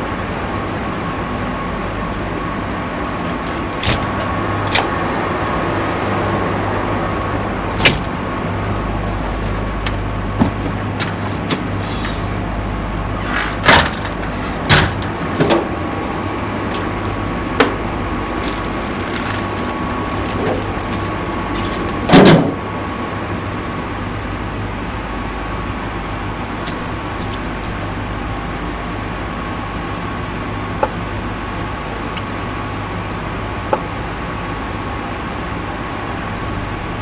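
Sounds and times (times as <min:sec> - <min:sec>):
electrical hum with high tone: 0:00.0 - 0:37.0.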